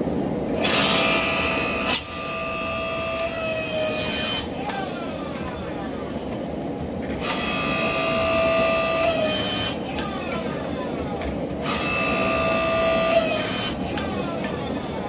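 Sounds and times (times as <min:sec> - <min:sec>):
constant rushing background: 0:00.0 - 0:15.0
hydraulic pump motor whine: 0:00.6 - 0:06.0, 0:07.0 - 0:15.0.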